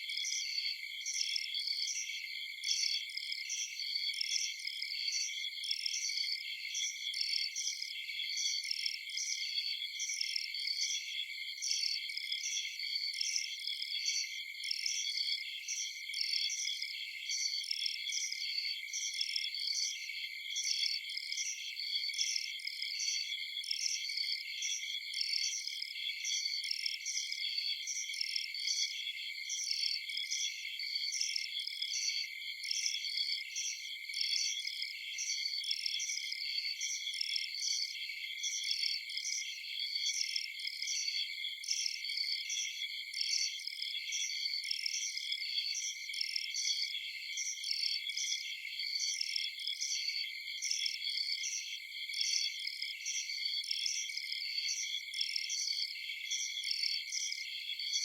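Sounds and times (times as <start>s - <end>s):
rapid repeating insect chirp: 0.0s - 58.0s.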